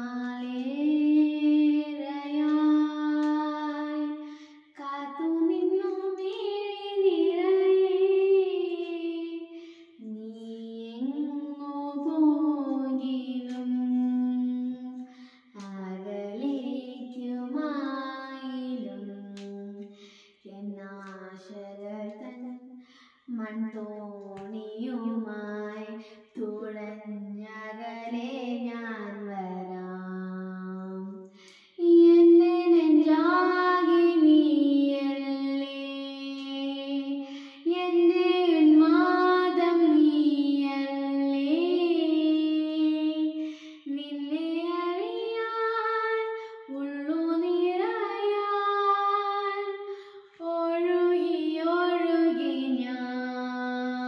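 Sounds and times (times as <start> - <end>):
girl singing into a microphone: 0.0 - 54.0.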